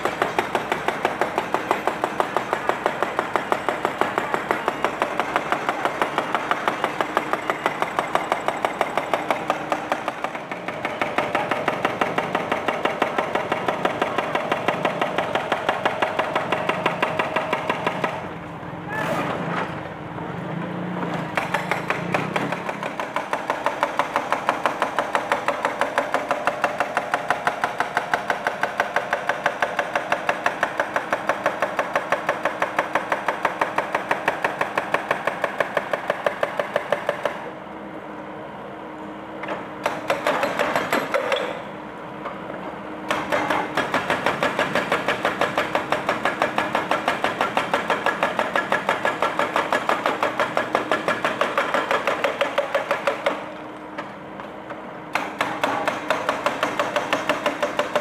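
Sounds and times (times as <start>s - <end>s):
hydraulic breaker hammering concrete: 0.0s - 18.4s, 21.0s - 37.5s, 39.4s - 41.7s, 43.0s - 54.1s, 55.1s - 58.0s
excavator engine running: 0.0s - 58.0s.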